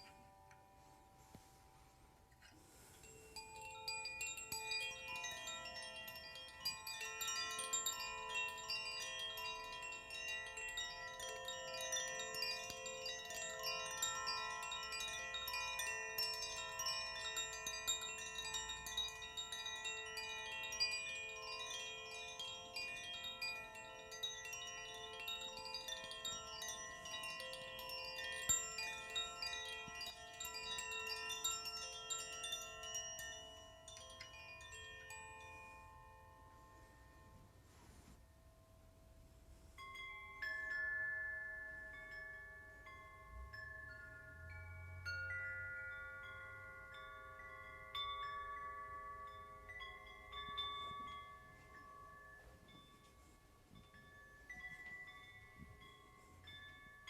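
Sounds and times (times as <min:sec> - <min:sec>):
chimes tinkling and ringing: 0:00.0 - 0:57.0.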